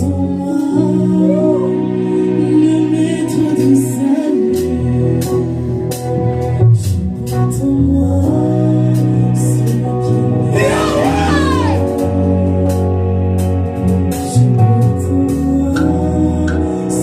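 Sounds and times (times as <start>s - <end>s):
gospel singing: 0.0s - 17.0s
sustained keyboard and bass: 0.0s - 17.0s.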